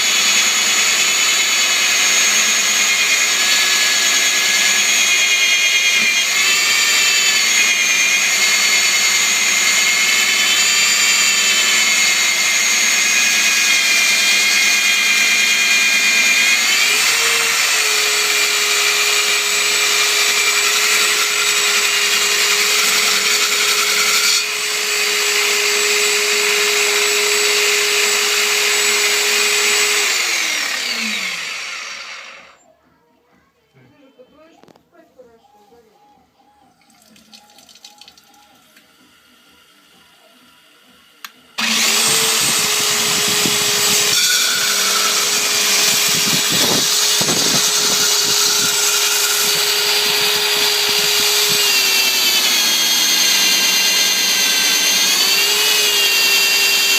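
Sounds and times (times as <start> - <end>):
electric drill motor whining: 0.0 - 32.6, 38.0 - 56.9.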